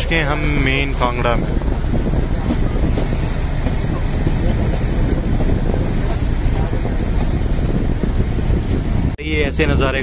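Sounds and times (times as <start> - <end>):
train carriage rumbling on rails: 0.0 - 10.0
wind on microphone: 0.0 - 10.0.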